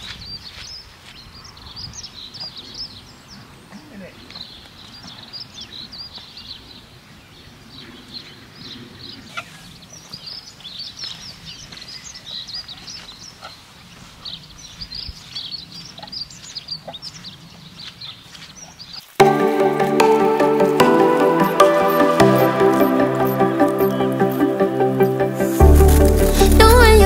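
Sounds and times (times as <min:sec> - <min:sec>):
small birds chirping and singing: 0:00.0 - 0:27.0.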